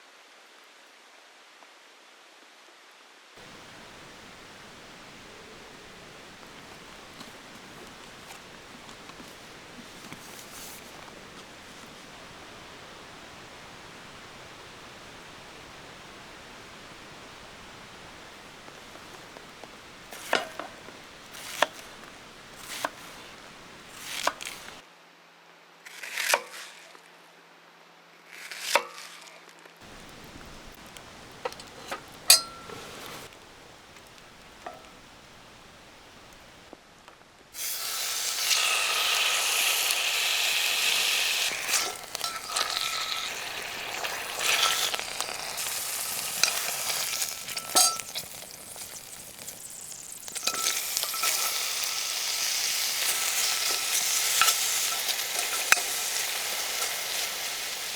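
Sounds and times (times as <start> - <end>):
food sizzling in hot pan: 3.4 - 24.8, 29.8 - 36.5, 37.6 - 57.9.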